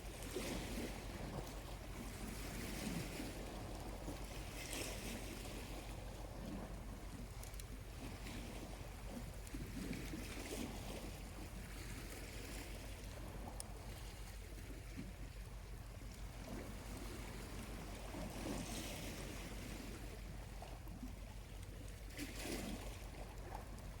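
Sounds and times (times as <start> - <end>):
small waves lapping on shore: 0.0 - 24.0.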